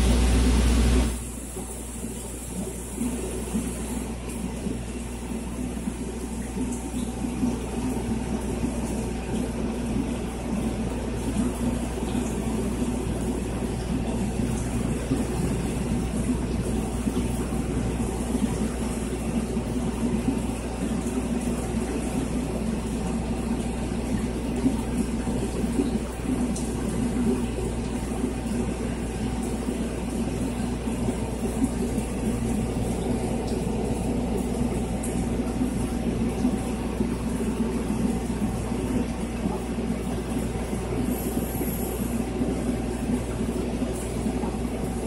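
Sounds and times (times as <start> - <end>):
pump low hum: 0.0 - 45.0
trickling water: 1.2 - 45.0.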